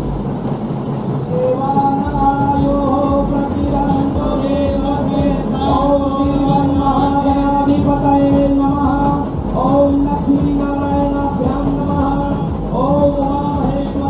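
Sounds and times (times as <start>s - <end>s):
steady held drone tone: 0.0s - 14.0s
man chanting mantras: 1.3s - 14.0s.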